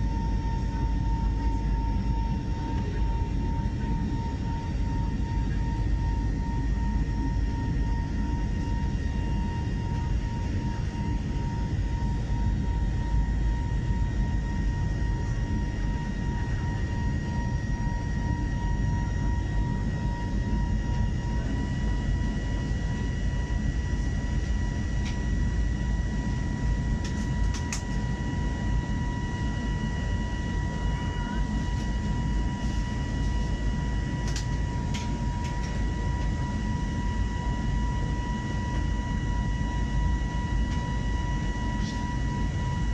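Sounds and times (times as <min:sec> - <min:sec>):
airliner engine rumble: 0:00.0 - 0:42.9.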